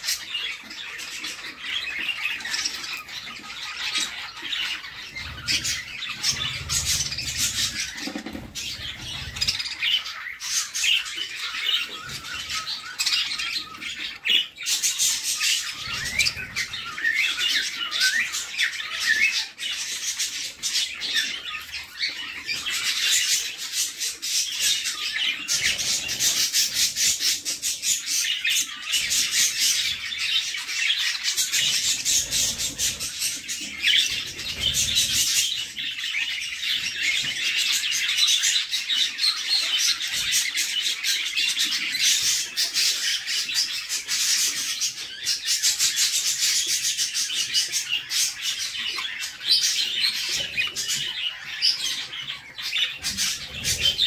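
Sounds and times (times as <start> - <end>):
chicks chirping: 0.0 - 54.0.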